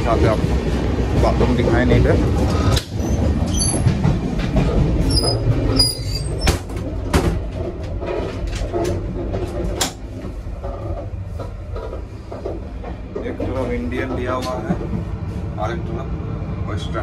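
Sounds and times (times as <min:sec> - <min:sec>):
train rumble inside coach: 0:00.0 - 0:17.0.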